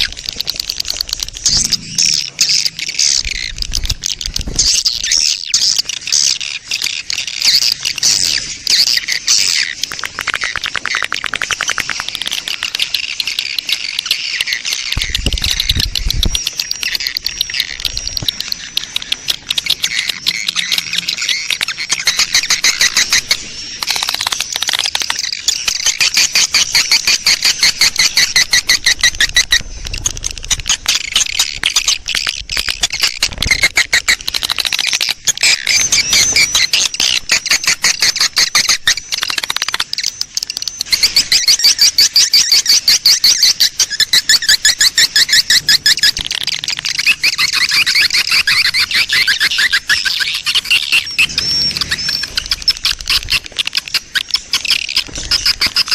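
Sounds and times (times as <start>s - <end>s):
swiftlets twittering: 0.0s - 55.9s.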